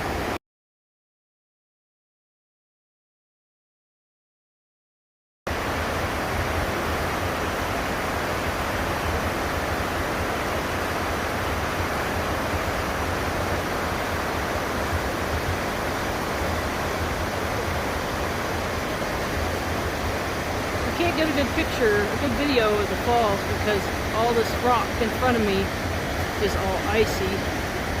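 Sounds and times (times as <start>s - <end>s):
waterfall rushing: 5.5s - 28.0s.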